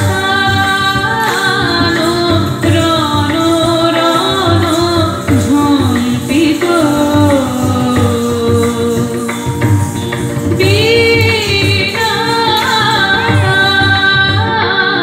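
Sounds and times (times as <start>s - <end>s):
dance song with singing: 0.0s - 10.0s, 10.6s - 15.0s.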